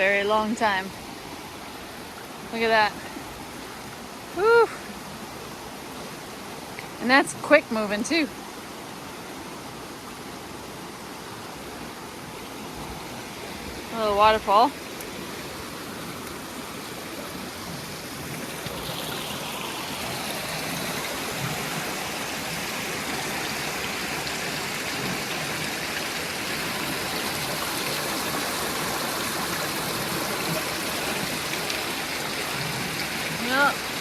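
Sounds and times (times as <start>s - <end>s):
creek rushing over waterfall: 0.0s - 34.0s.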